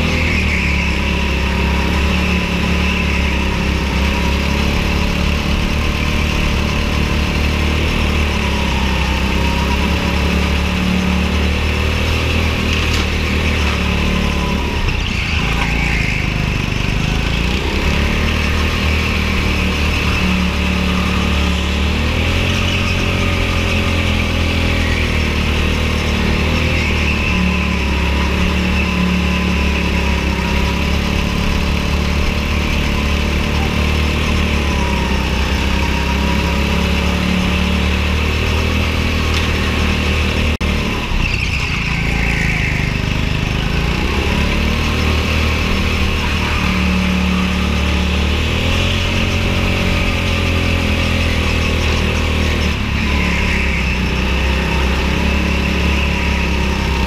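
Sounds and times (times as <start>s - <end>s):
go-kart engine droning: 0.0s - 57.0s.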